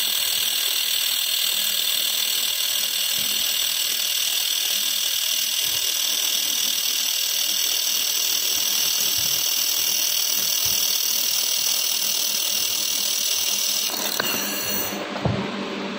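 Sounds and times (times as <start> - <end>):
laser welder hissing: 0.0 - 15.0.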